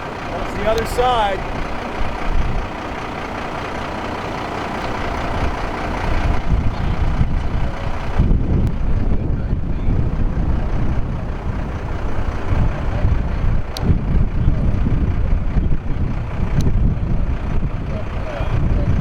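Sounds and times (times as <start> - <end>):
heavy truck engine rumbling: 0.0 - 19.0.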